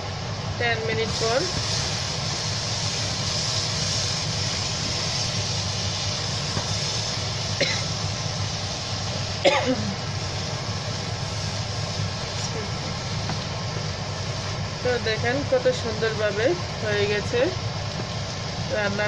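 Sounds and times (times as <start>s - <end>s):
curry sizzling in a pan: 0.0s - 19.0s.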